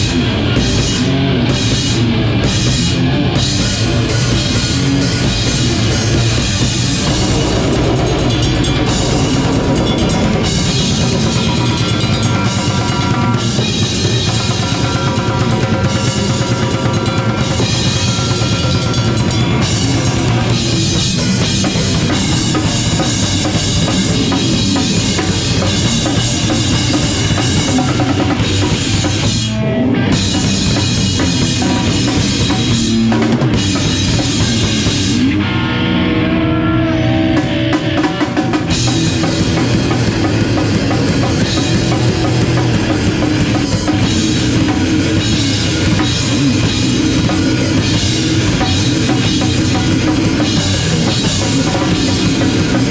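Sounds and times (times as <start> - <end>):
drum kit: 0.0 - 35.5, 37.2 - 52.9
live rock band playing: 0.0 - 52.9.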